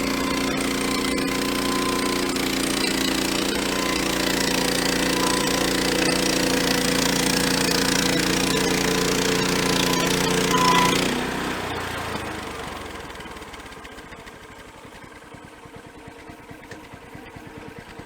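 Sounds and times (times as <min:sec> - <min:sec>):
gas engine running: 0:00.0 - 0:18.0.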